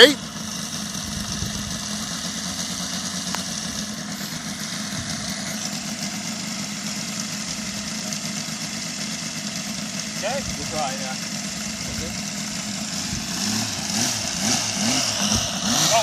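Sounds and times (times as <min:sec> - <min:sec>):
model airplane engine running: 0:00.0 - 0:16.0.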